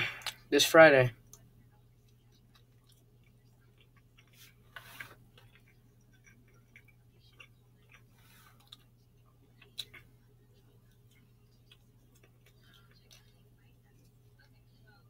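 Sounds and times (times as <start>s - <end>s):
low steady hum: 0.0s - 15.0s
faint chewing with mouth clicks: 1.1s - 15.0s.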